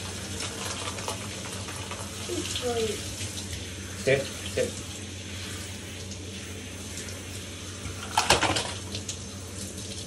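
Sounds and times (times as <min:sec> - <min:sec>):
faucet water running: 0:00.0 - 0:10.0.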